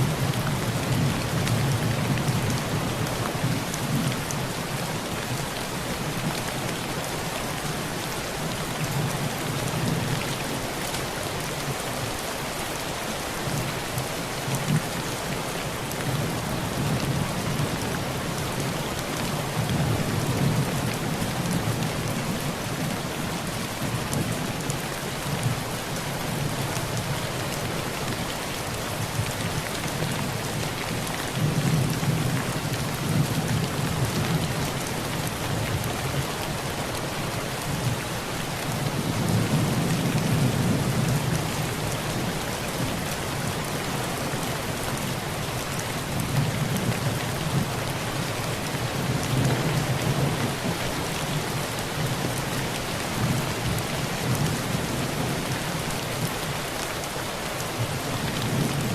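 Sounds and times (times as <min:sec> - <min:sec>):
heavy rain on a tin roof: 0:00.0 - 0:58.9.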